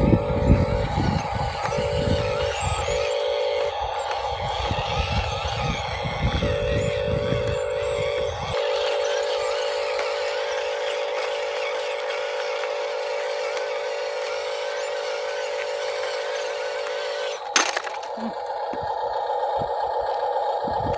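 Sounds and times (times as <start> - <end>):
remote-control truck motor whine: 0.0 - 20.9.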